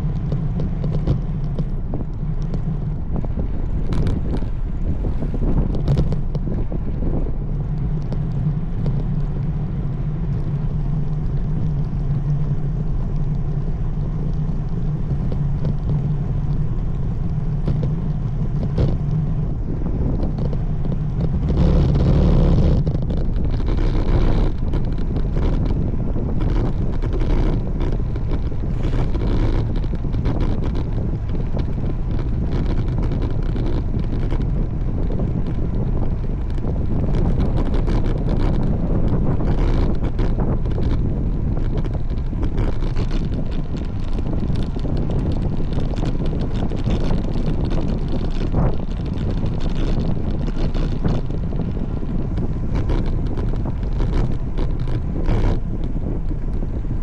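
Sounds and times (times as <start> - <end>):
low rumble: 0.0 - 57.0
wind buffeting microphone: 0.0 - 57.0.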